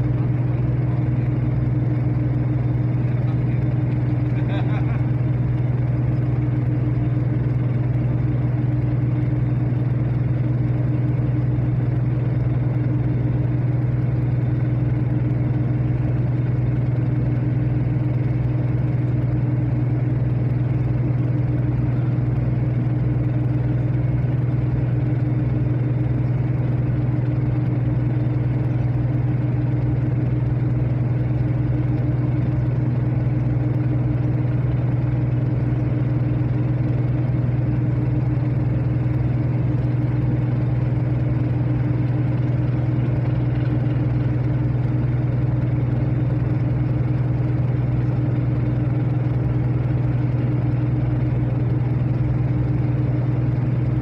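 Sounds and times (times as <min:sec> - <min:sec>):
ferry engine droning: 0:00.0 - 0:54.0.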